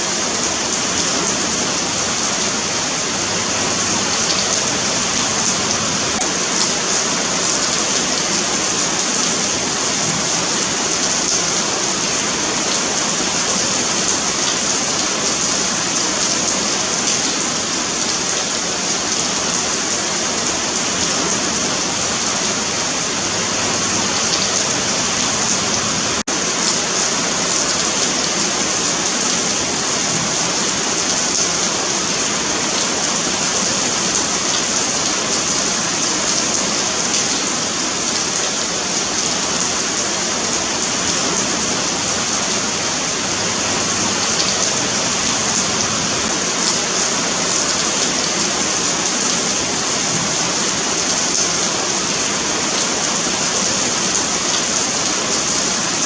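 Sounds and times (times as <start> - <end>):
rain on pavement: 0.0 - 56.0.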